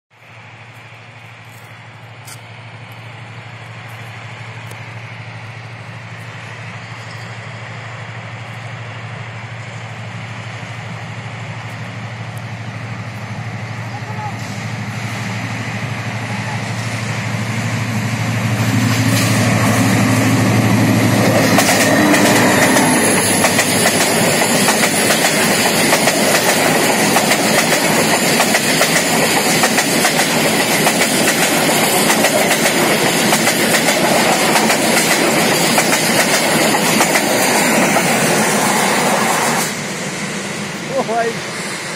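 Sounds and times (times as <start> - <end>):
train passing at speed: 0.1 - 41.9.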